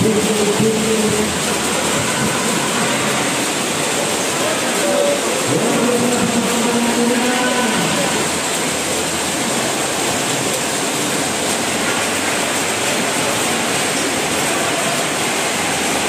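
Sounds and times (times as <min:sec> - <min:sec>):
crowd din: 0:00.0 - 0:10.4, 0:11.6 - 0:16.0.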